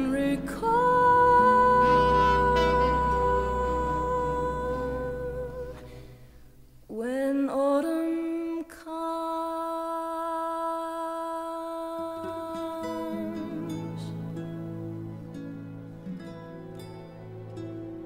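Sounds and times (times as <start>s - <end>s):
slow vocal ballad: 0.0s - 15.2s.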